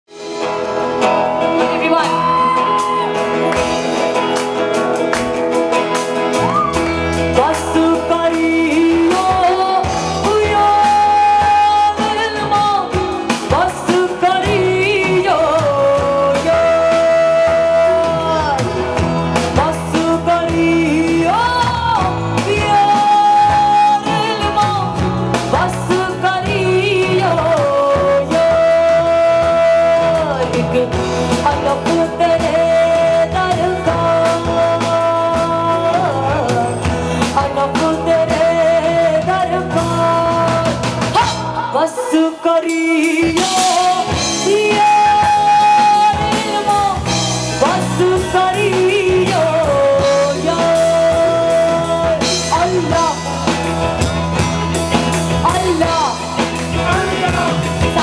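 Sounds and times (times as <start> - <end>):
bass guitar: 0.1 - 58.0
rock band playing: 0.1 - 58.0
woman singing into a microphone: 0.2 - 4.7, 6.3 - 54.1, 55.3 - 58.0.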